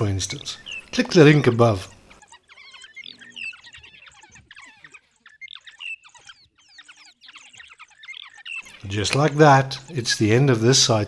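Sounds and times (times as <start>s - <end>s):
wild dogs twittering: 0.0s - 11.0s.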